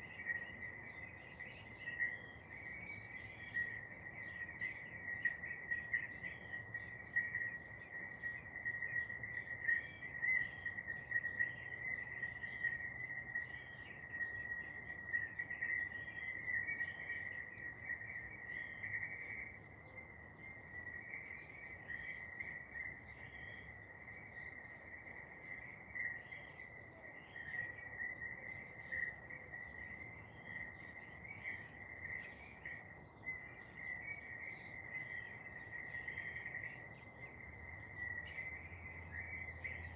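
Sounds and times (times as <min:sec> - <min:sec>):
garden birds chirping: 0:00.0 - 0:39.9.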